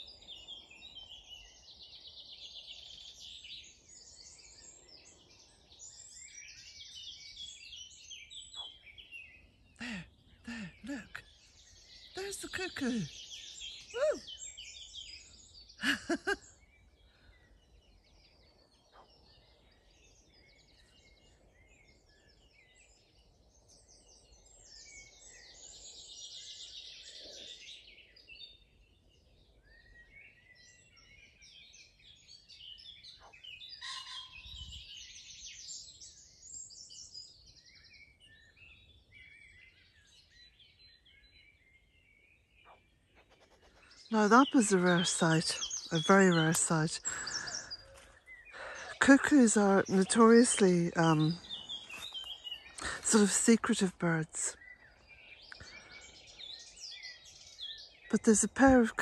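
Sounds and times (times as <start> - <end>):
faint outdoor background: 0.0 - 59.0
songbirds chirping and trilling: 0.0 - 59.0.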